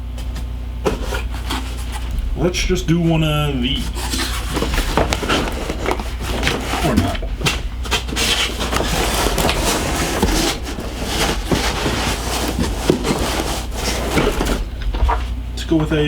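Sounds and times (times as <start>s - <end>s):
packaging rustling and scraping: 0.0s - 15.5s.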